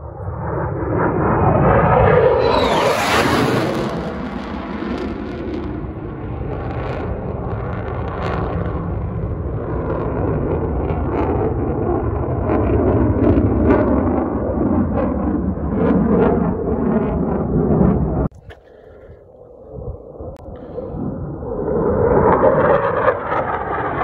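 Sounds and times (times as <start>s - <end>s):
jet roar flying past: 0.0s - 24.0s.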